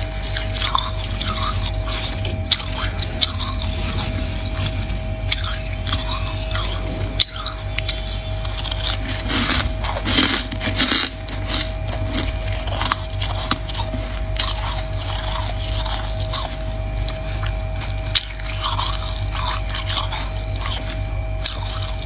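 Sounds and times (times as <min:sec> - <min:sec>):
frost being chewed crunching: 0:00.0 - 0:22.0
steady low hum: 0:00.0 - 0:22.0.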